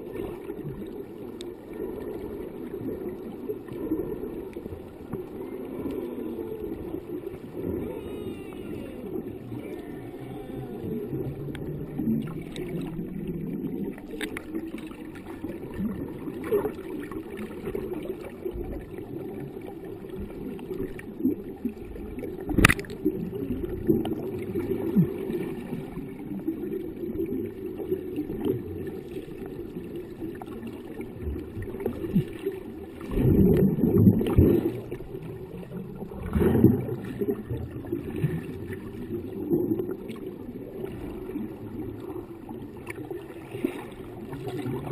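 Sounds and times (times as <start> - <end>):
underwater water sloshing: 0.0 - 44.9.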